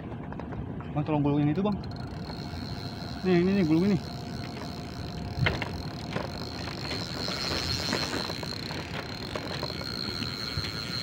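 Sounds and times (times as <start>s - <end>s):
rod and reel clicks: 1.6s - 11.0s
fishing reel drag screaming: 1.8s - 11.0s.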